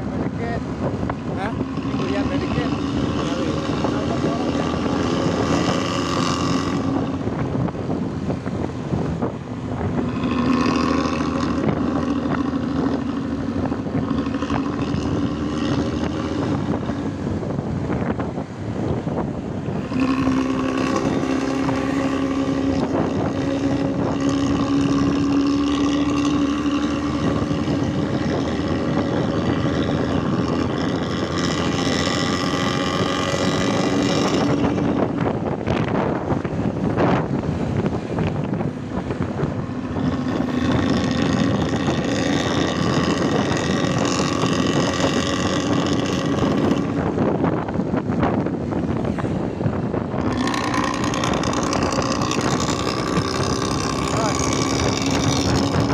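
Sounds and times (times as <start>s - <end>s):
bus engine droning exhaust: 0.0s - 55.9s.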